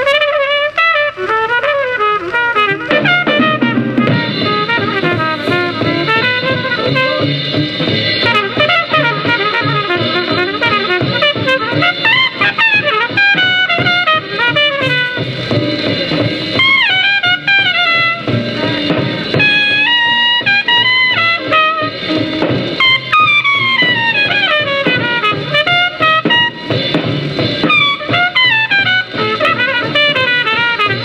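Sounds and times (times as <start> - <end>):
alto saxophone: 0.0 - 31.0
trumpet: 0.0 - 31.0
piano bass and drums: 1.5 - 31.0.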